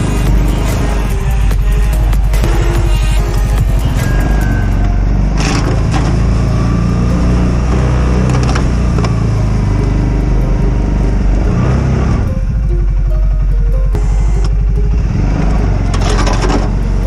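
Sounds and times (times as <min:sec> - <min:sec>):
atv engine running: 0:00.0 - 0:17.0
plow pushing snow: 0:00.0 - 0:17.0.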